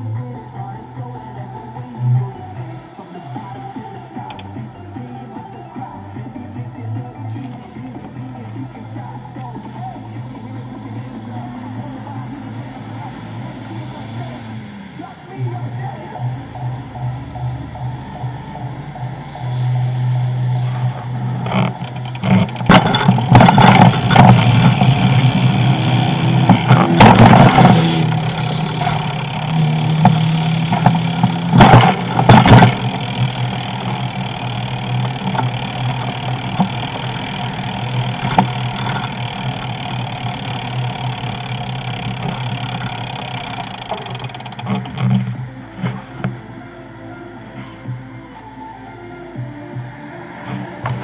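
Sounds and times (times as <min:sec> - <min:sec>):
cars passing: 0:00.0 - 0:51.0
low traffic hum: 0:00.0 - 0:51.0.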